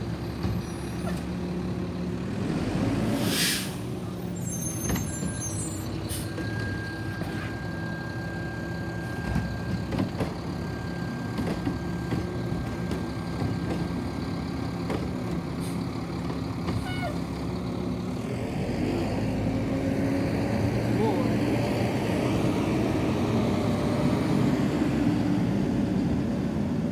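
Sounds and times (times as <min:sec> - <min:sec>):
garbage truck diesel engine running: 0:00.0 - 0:03.1, 0:03.8 - 0:26.9.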